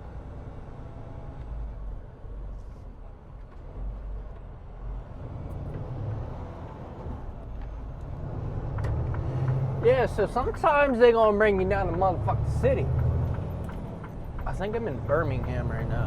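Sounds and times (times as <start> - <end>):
diesel truck engine rumble: 0.0 - 16.0
road noise: 0.0 - 16.0.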